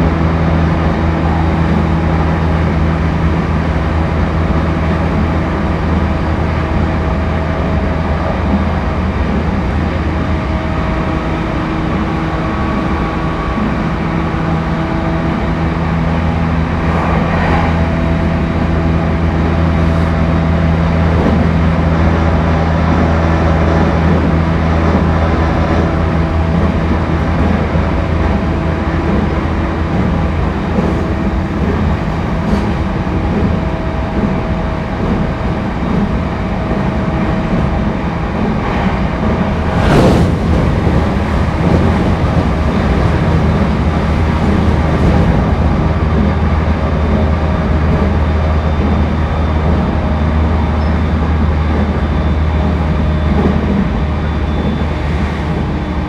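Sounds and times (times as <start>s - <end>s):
train motor hum: 0.0s - 56.0s
train wheels rumbling on rails: 0.0s - 56.0s.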